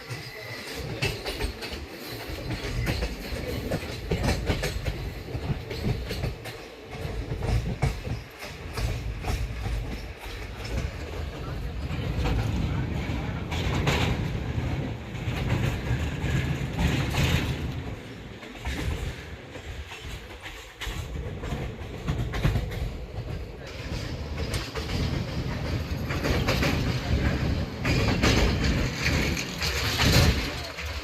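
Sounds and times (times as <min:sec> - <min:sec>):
train rumbling on rails: 0:00.0 - 0:31.0
wheels clacking over rail joints: 0:00.0 - 0:31.0.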